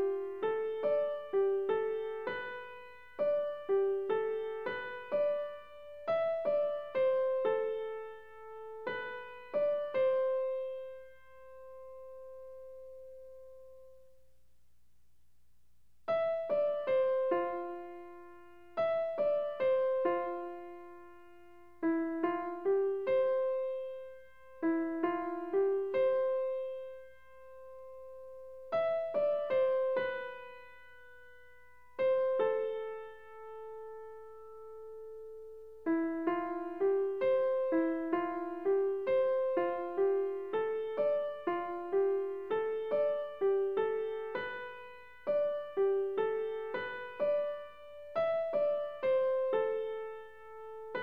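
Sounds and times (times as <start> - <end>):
slow piano melody: 0.0 - 14.3, 16.1 - 51.0.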